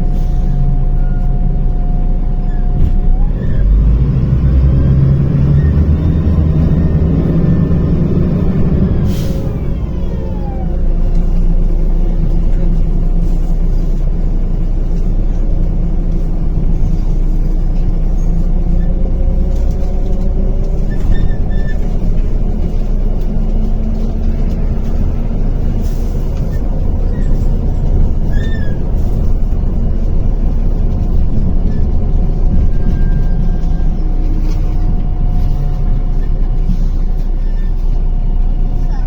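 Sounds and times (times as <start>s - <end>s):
bus diesel engine rumble: 0.0s - 39.0s
road noise: 0.0s - 39.0s.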